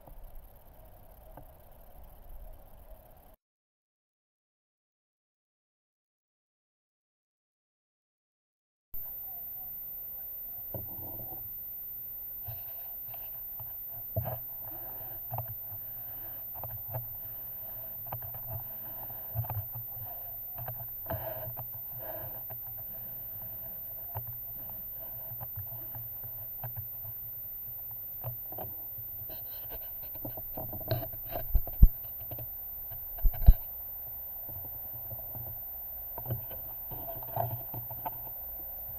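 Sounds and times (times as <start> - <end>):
low steady hum: 0.0 - 3.4, 9.0 - 38.9.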